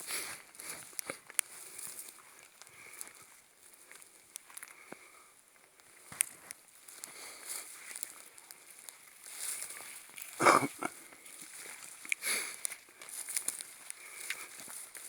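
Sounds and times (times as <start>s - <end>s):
twigs crackling and snapping: 0.7s - 5.1s, 5.8s - 10.4s, 11.6s - 15.0s.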